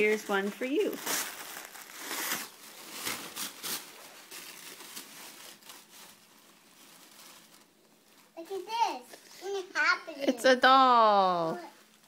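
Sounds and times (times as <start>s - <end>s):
gift bag rustling and crinkling: 0.0s - 9.7s.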